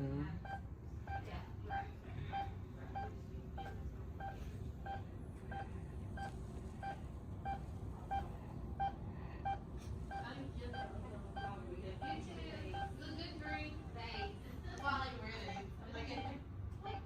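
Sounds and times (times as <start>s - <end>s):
patient monitor beeping: 0.0s - 14.4s, 15.3s - 17.0s.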